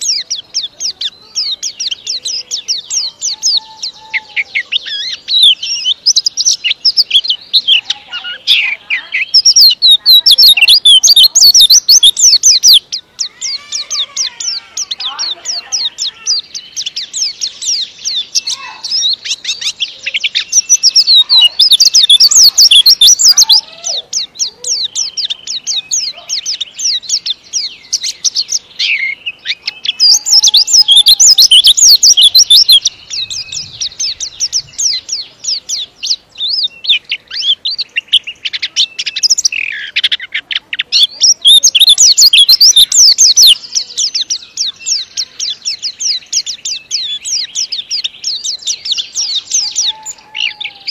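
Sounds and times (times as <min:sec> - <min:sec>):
bird singing high twittering song: 0:00.0 - 0:50.9.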